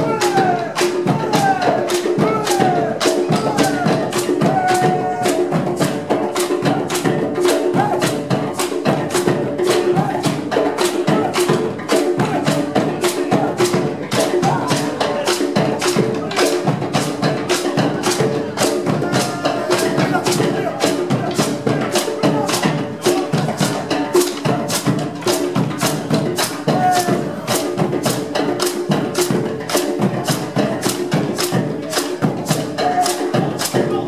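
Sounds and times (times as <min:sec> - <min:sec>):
hand drums ensemble playing: 0:00.0 - 0:34.0.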